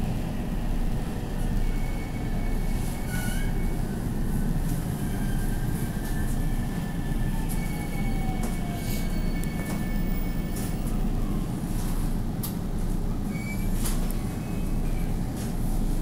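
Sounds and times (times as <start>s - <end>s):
train interior low rumble: 0.0s - 16.0s.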